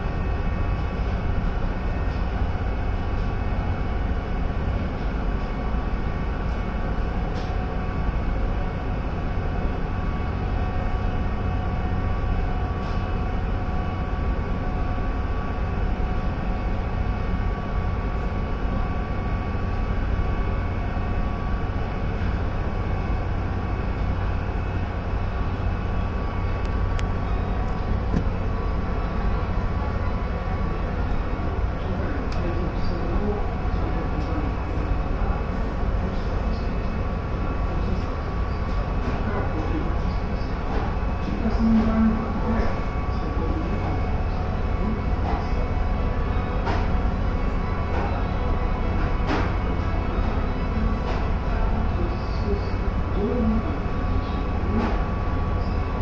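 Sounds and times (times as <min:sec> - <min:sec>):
faint steady whine: 0:00.0 - 0:56.0
ship engines droning: 0:00.0 - 0:56.0.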